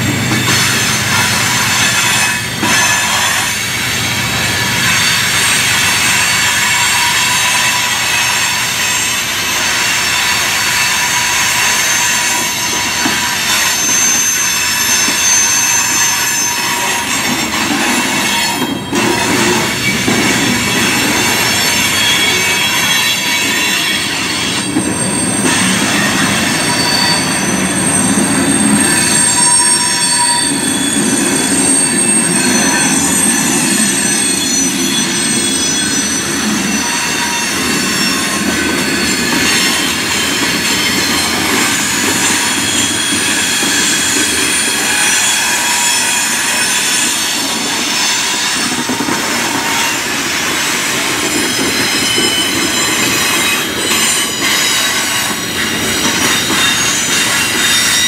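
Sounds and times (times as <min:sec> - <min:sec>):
train wheels rumbling on rails: 0:00.0 - 0:58.0
wheel squeals: 0:00.0 - 0:58.0.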